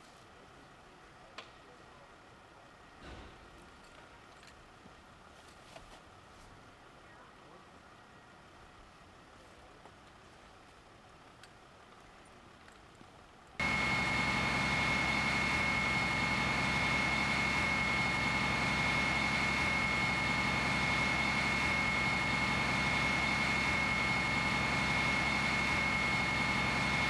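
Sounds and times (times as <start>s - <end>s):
fire engine droning with whine: 0.0s - 27.0s.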